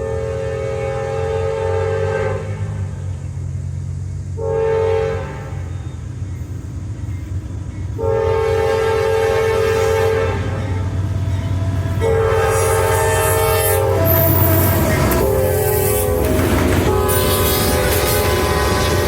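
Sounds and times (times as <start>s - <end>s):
locomotive horn blasts: 0.0s - 3.2s, 4.4s - 6.1s, 7.9s - 19.0s
train rumbling: 0.0s - 19.0s.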